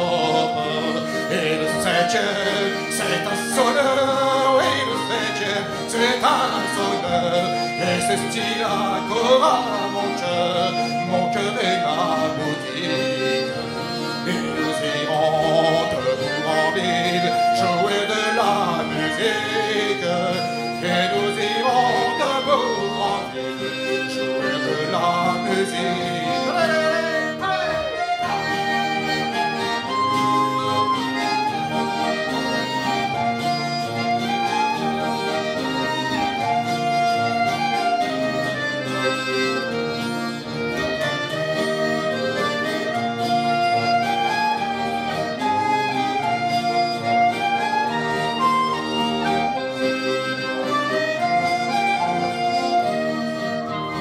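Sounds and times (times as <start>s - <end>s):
folk band dance tune: 0.0s - 54.0s.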